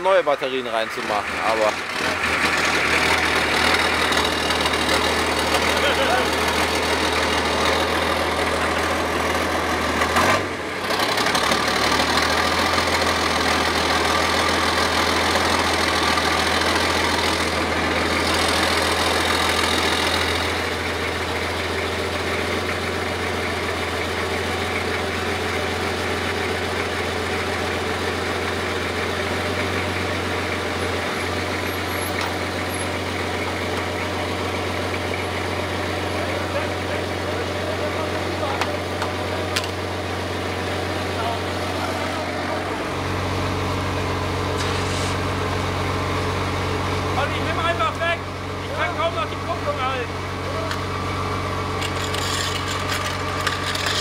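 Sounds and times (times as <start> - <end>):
tank engine idling: 0.0 - 54.0.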